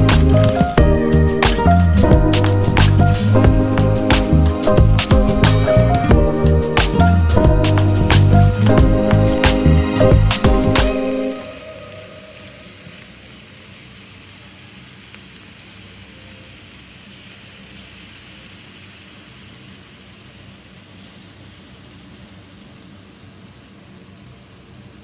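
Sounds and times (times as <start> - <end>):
vegetables sizzling in pan: 0.0 - 25.0.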